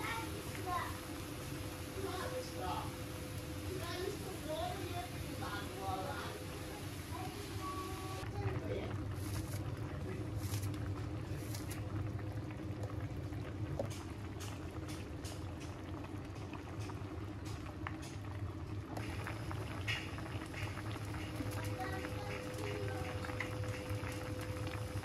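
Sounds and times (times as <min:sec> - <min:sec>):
food bubbling and crackling: 0:00.0 - 0:25.0
low steady hum: 0:00.0 - 0:25.0.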